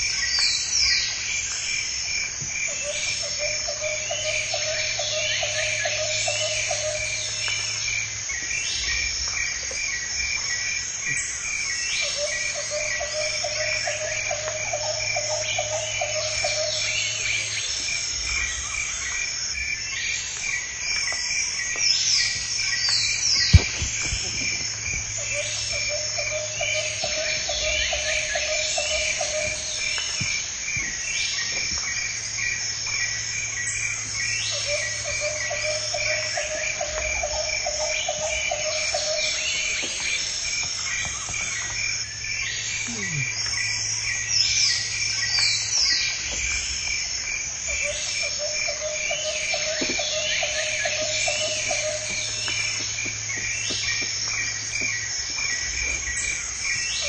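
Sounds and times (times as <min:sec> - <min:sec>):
frogs: 0:00.0 - 0:57.0
high pulsing insect chirp: 0:00.0 - 0:57.0.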